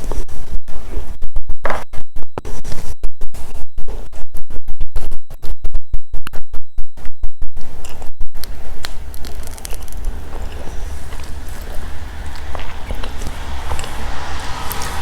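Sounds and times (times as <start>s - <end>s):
distorted chewing and crunching: 0.0s - 15.0s.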